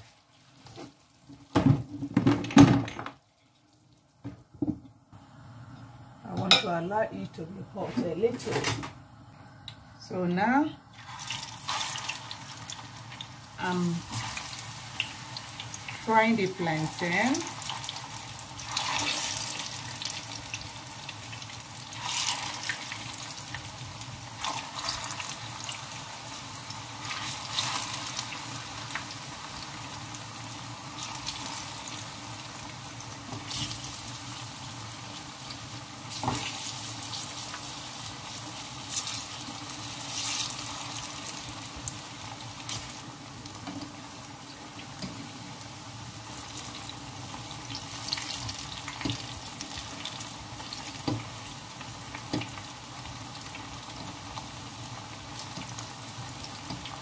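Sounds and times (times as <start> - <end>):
slices frying in hot oil: 10.4 - 57.0.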